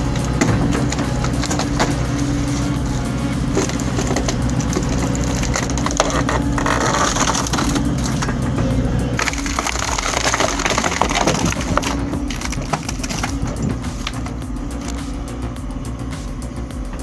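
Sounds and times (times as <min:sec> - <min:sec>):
wood cracking and splintering: 0:00.0 - 0:15.3
wood chipper engine humming: 0:00.0 - 0:17.0.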